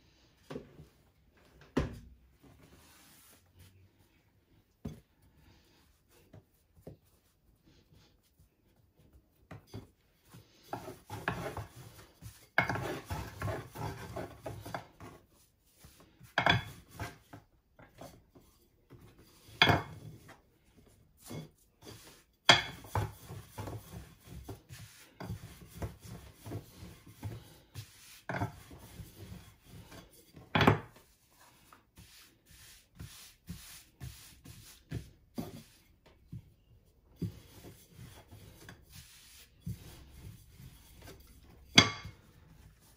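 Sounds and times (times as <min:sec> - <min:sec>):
rolling pin on dough: 0:04.4 - 0:42.9.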